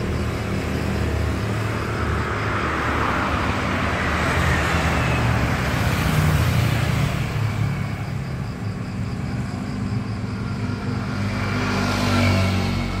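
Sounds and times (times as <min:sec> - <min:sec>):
motorcycle engines passing: 0:00.0 - 0:13.0.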